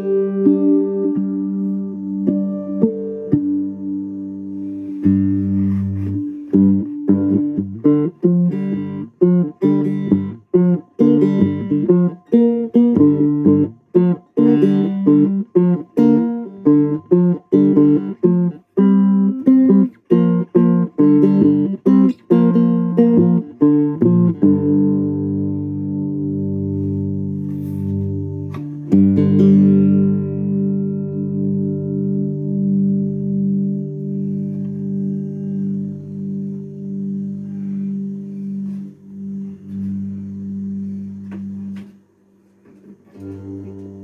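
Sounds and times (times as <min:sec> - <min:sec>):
resonator guitar notes and chords: 0:00.0 - 0:42.0, 0:43.1 - 0:44.0.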